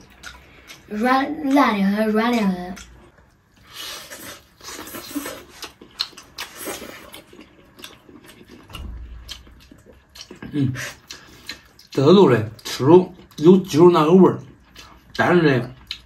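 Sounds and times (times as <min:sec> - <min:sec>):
people chewing with wet smacking: 0:00.0 - 0:16.0.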